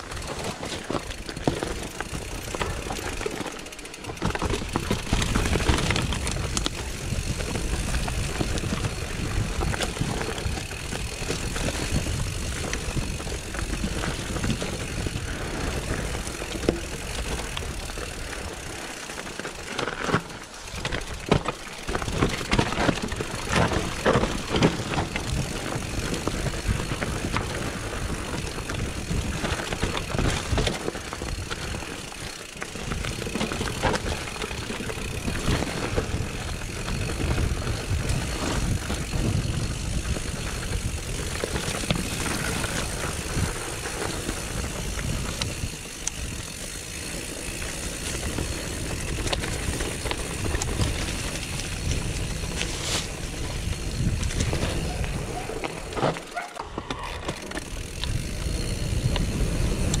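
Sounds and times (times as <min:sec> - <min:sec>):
bike rattling and knocking: 0:00.0 - 1:00.0.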